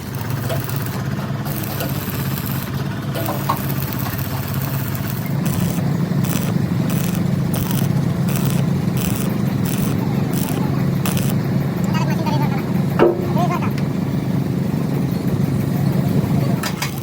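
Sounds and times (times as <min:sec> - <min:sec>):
diesel engine running: 0:00.0 - 0:17.0
pulsing hiss: 0:00.0 - 0:17.0.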